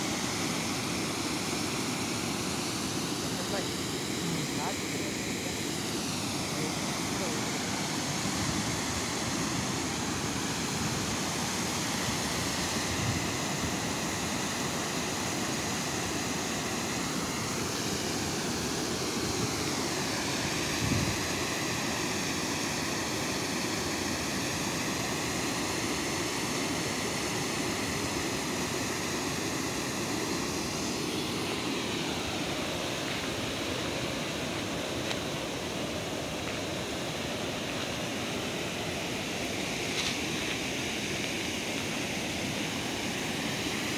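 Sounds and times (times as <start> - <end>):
water rushing over weir: 0.0 - 43.9.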